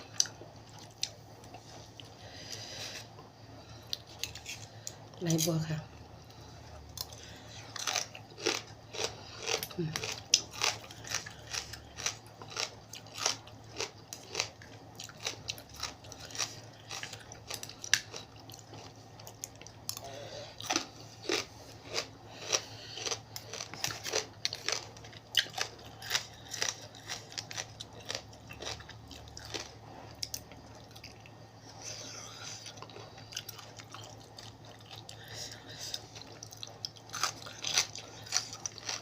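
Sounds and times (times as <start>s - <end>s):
person chewing and crunching: 0.0s - 39.0s.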